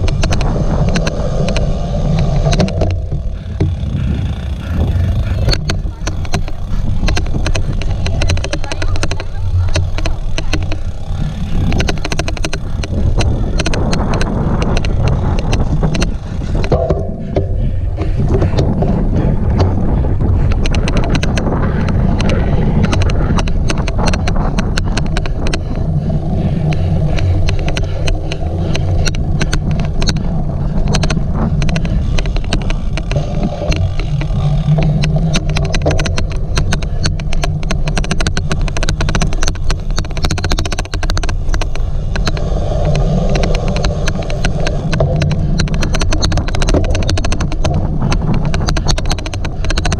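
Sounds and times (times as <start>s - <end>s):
bike rumbling over rough ground: 0.0s - 49.9s
rapid irregular clicking: 0.0s - 49.9s.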